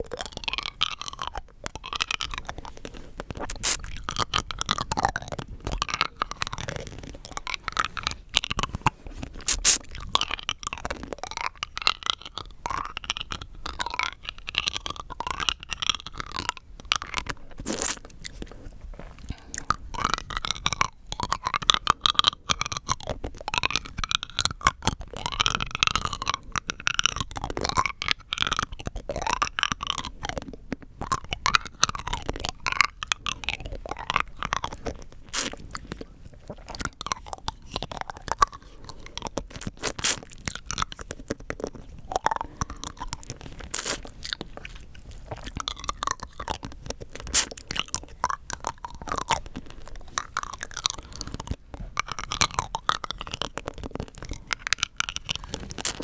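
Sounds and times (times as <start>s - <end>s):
rock candy crunched and chewed: 0.0s - 56.0s.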